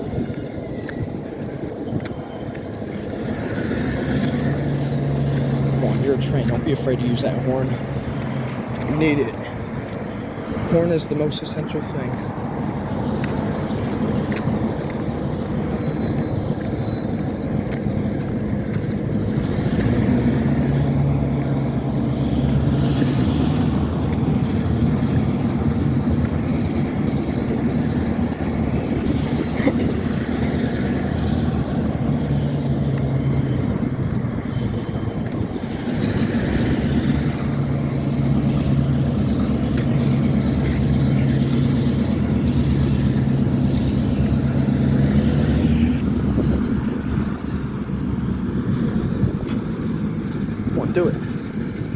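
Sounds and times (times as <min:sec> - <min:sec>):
locomotive diesel engine droning: 0:00.0 - 0:51.9.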